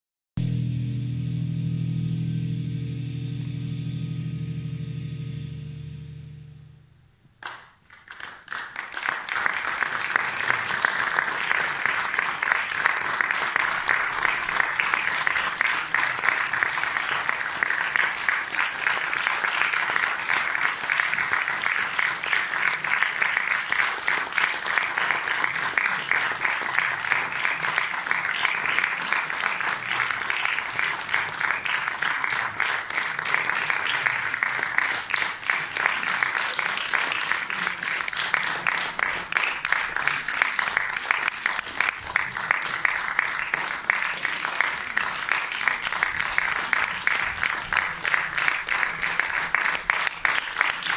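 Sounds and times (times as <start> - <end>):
audience applauding: 7.4 - 50.9.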